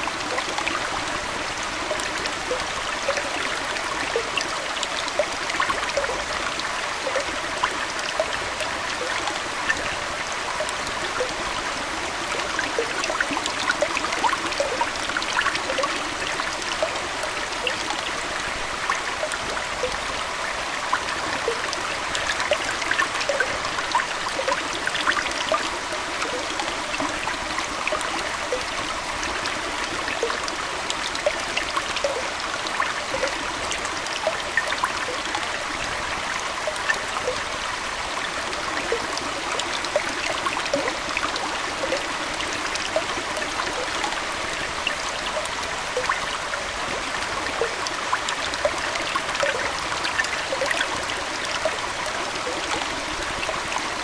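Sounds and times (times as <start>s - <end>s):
aquarium water trickling: 0.0s - 54.0s.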